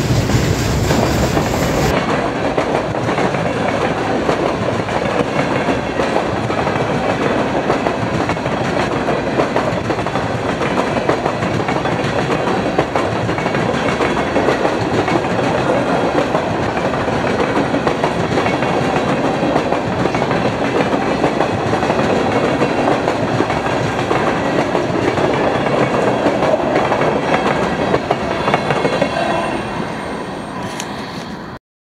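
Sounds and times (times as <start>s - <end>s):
wheels clacking over rail joints: 0.0s - 29.1s
freight train wheels rumbling: 0.0s - 31.6s.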